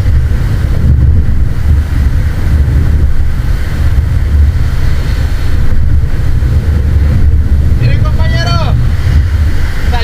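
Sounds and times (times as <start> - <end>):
surf washing: 0.0 - 10.0
wind buffeting microphone: 0.0 - 10.0.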